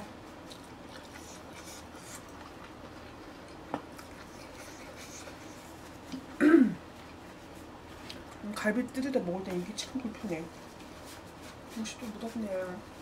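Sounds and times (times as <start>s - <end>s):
faint chewing: 0.0s - 12.6s.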